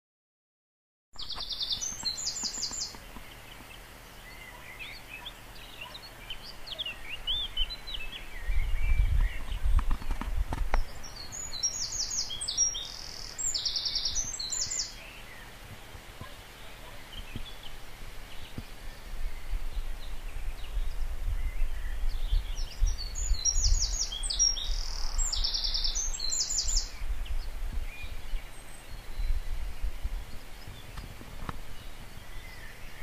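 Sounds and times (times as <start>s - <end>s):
birds singing: 1.2s - 33.0s.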